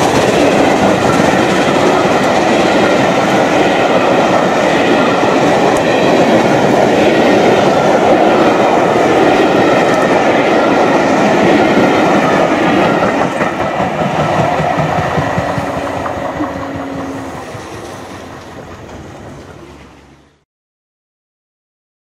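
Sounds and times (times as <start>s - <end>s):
wheels clicking over rail joints: 0.0s - 20.0s
train coaches rolling on rails: 0.0s - 20.4s.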